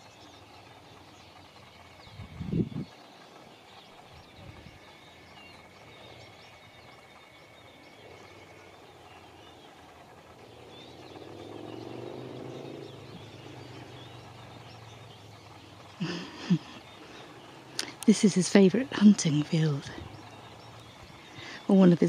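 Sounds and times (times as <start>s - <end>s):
low steady hum: 0.0s - 22.0s
small birds chirping: 0.0s - 22.0s.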